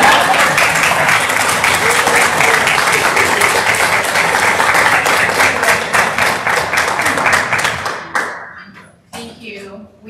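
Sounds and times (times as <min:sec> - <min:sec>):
people applauding: 0:00.0 - 0:08.6.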